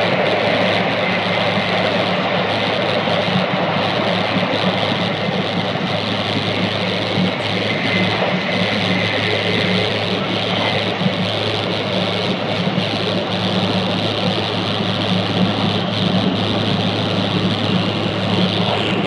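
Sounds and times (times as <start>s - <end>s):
constant low hum: 0.0s - 19.0s
train rushing noise: 0.0s - 19.0s.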